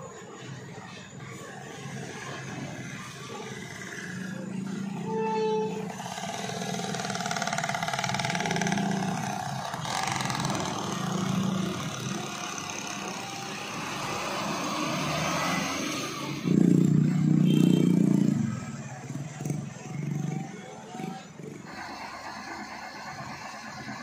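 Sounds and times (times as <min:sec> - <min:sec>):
diesel lorry engine running: 0:00.0 - 0:24.0
motorcycle engines passing: 0:00.0 - 0:24.0.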